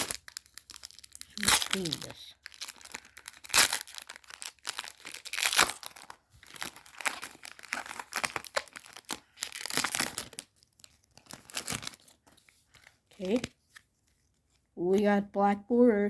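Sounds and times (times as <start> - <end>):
foil wrapper tearing and crinkling: 0.0 - 13.5.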